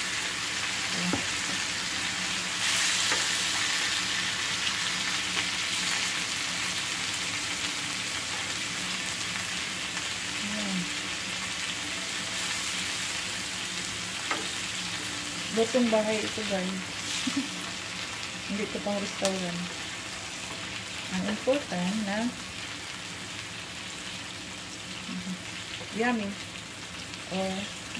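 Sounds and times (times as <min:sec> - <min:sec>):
chicken sizzling in a skillet: 0:00.0 - 0:27.9.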